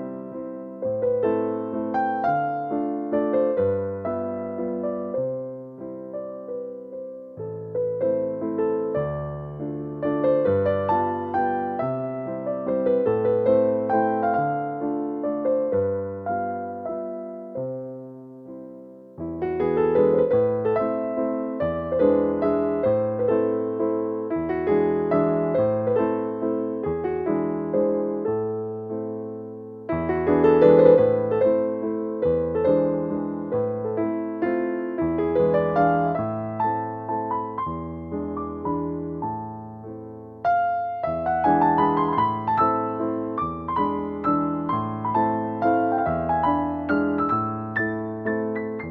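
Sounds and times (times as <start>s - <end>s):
slow piano music: 0.0s - 48.9s.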